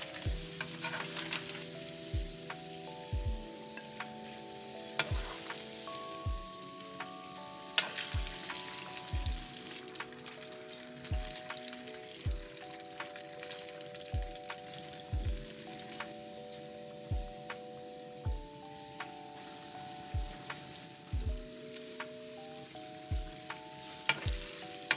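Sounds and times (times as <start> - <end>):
chicken deep-frying in oil: 0.0 - 3.0, 3.6 - 17.0, 17.6 - 24.9
background music with thumping beat: 0.0 - 4.2, 5.0 - 24.9.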